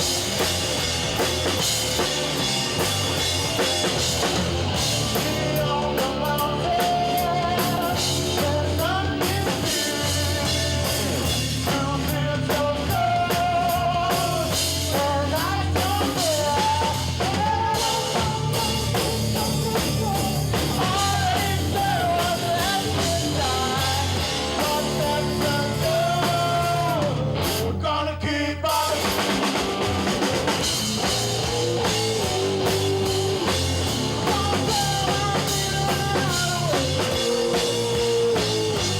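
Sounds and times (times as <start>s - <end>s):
rock band playing live: 0.0s - 27.9s, 28.6s - 38.9s.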